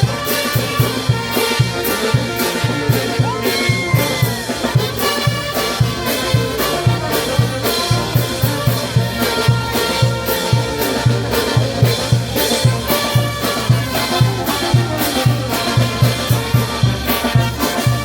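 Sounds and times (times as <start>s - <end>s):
bass drum beat: 0.0s - 18.0s
cymbals: 0.0s - 18.0s
trumpets and trombones: 0.0s - 18.0s.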